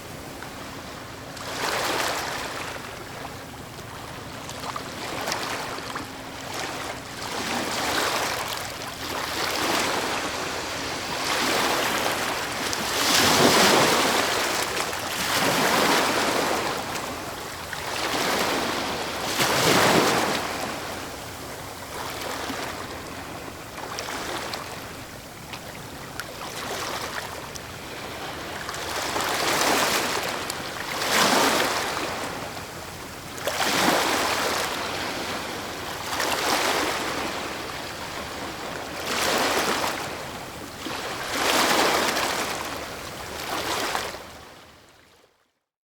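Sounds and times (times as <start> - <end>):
waves breaking on shore: 0.0 - 44.7.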